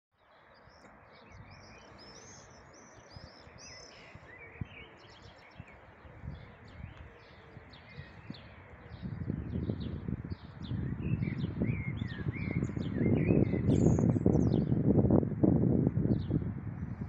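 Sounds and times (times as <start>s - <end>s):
songbirds singing: 0.2s - 17.0s.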